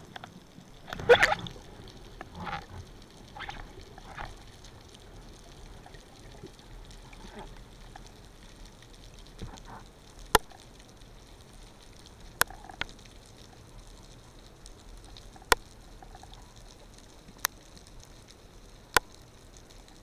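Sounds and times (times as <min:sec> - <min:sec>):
faint steady underwater hiss: 0:00.0 - 0:20.0.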